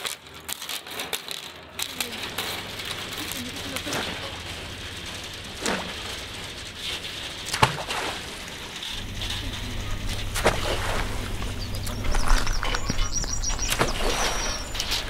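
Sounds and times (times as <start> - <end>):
low steady rumble: 1.6 - 15.0.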